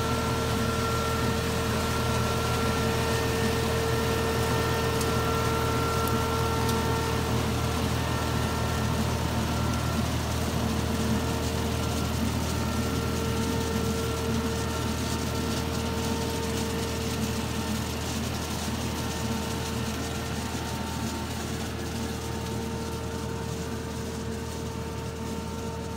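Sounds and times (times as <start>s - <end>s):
harvester machine drone: 0.0s - 25.9s
high machine whine: 0.0s - 25.9s
tractor engine low hum: 0.0s - 25.9s.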